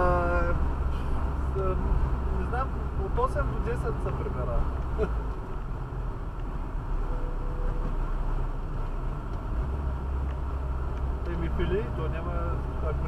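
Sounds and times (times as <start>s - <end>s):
car engine and tyre road noise: 0.0s - 13.0s.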